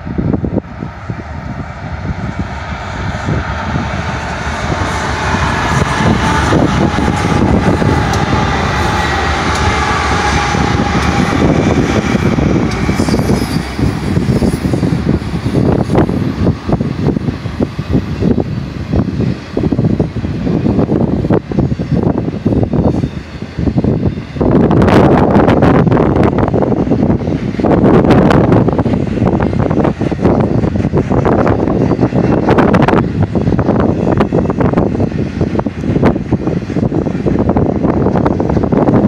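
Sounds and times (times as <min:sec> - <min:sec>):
diesel locomotive engines: 0:00.0 - 0:39.0
freight cars rumbling: 0:00.0 - 0:39.0.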